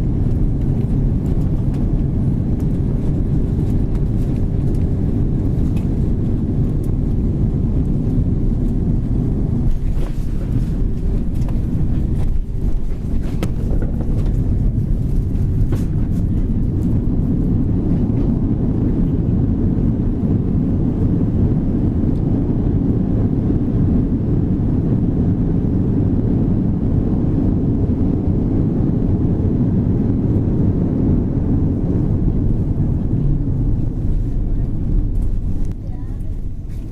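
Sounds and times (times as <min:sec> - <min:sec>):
airplane cabin rumble: 0:00.0 - 0:36.9.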